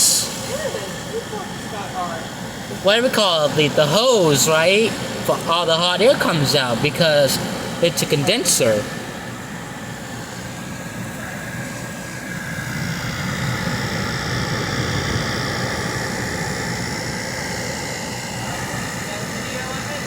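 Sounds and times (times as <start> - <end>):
air conditioner whooshing hum: 0.0 - 20.0.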